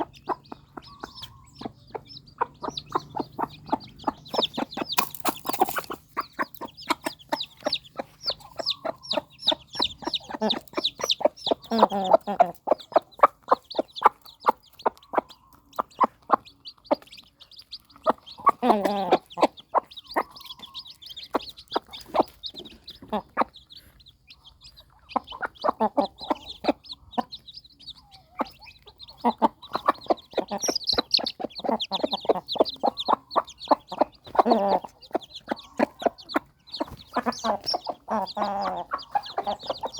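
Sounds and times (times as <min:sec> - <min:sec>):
chickens calling: 0:00.0 - 0:39.9
chicks cheeping: 0:00.0 - 0:39.9.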